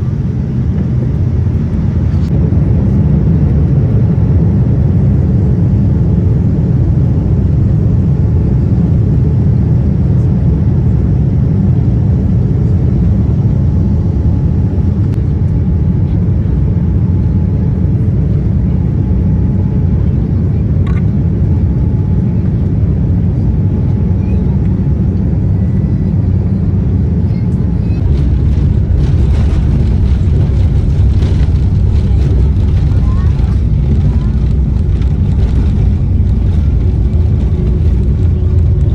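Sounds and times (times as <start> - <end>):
aircraft engines rumbling: 0.0 - 38.9.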